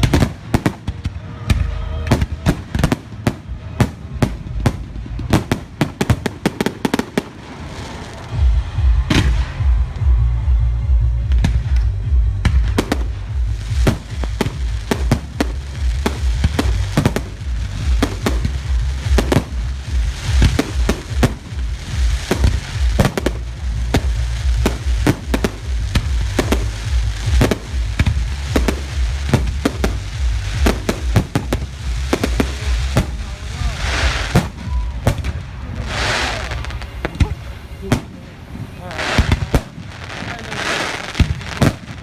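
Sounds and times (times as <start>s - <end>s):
fireworks banging: 0.0s - 42.0s.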